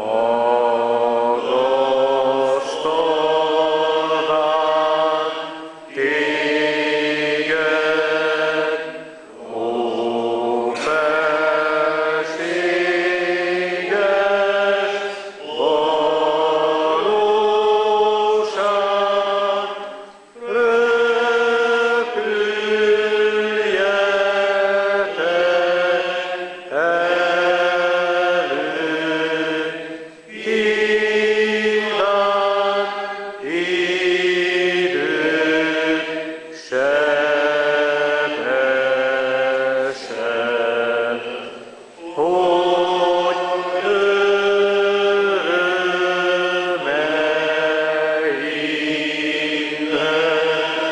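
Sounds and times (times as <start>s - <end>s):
congregation singing a hymn: 0.0s - 50.9s.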